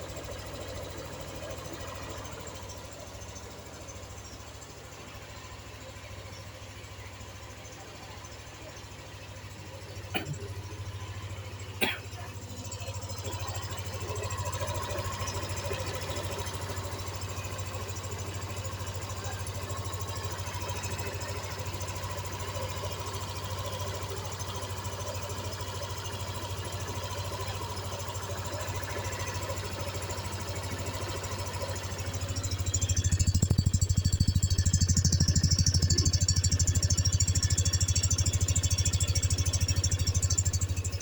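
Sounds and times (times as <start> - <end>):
scooter engine idling: 0.0 - 41.0.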